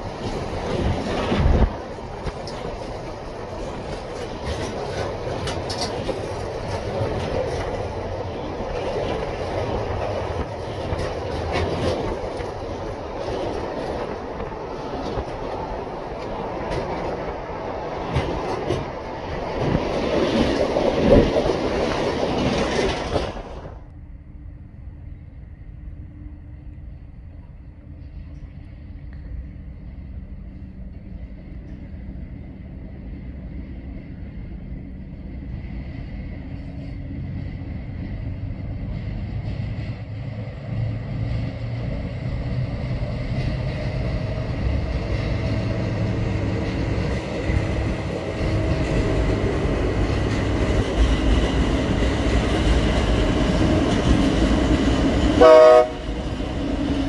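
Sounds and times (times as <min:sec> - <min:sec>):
freight train wheels clattering: 0:00.0 - 0:23.8, 0:35.0 - 0:57.0
diesel locomotive engines running: 0:00.0 - 0:57.0.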